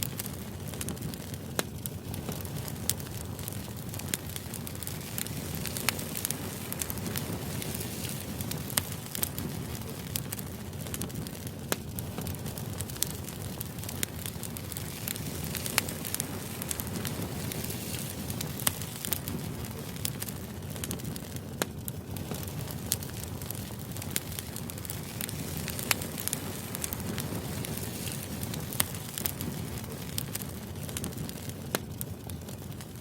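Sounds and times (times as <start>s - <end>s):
sharp pops and crackles: 0.0s - 33.0s.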